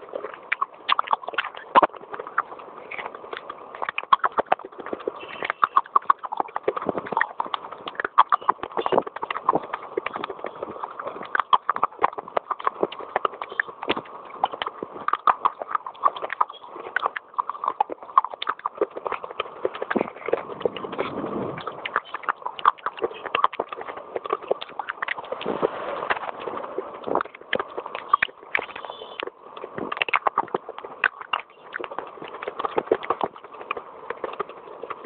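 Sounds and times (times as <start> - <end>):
clay pot crunching when chewed: 0.0 - 35.0.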